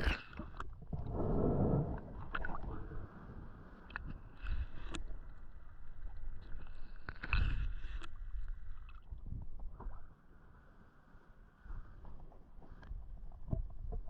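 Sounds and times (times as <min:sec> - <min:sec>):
water sloshing and gurgling: 0:00.0 - 0:10.4, 0:11.7 - 0:14.0.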